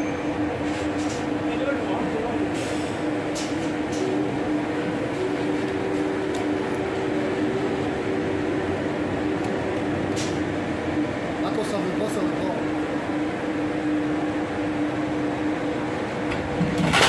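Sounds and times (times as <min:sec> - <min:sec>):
train electric hum and hiss: 0:00.0 - 0:17.0.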